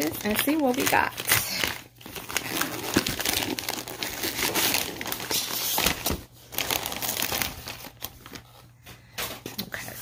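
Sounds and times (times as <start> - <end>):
plastic mailer bag crinkling: 0.0 - 8.7.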